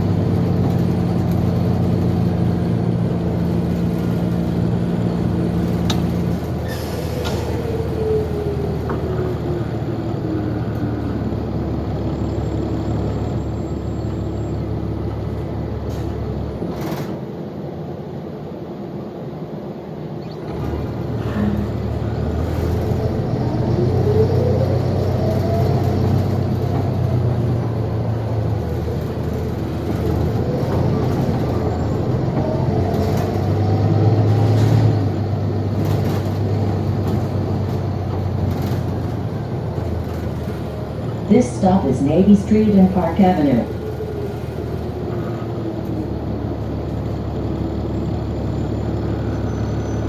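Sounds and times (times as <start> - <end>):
bus cabin low drone: 0.0 - 50.0.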